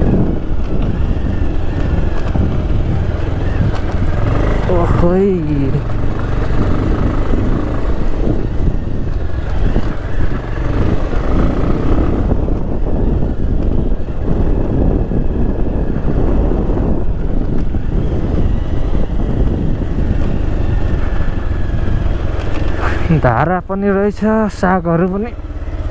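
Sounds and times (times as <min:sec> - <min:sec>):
motorcycle engine running: 0:00.0 - 0:25.9
wind noise on microphone: 0:00.0 - 0:25.9.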